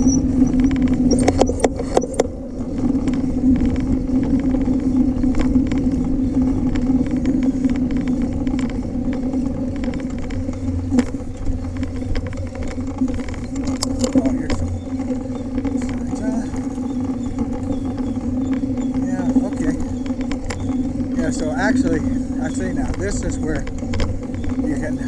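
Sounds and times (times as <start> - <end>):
bike clicks and rattles: 0.0 - 25.0
bike tyres rolling on trail: 0.0 - 25.0.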